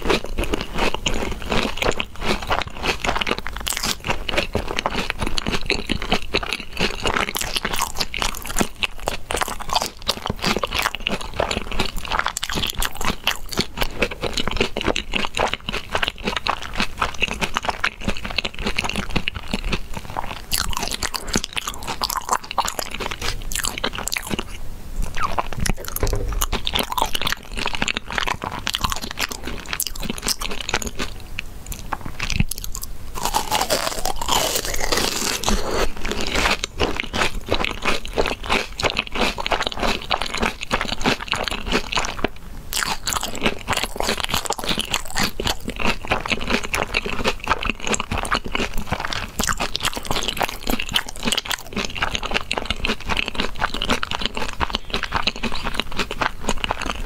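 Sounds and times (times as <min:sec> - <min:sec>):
crunching and chewing fried food: 0:00.0 - 0:57.0.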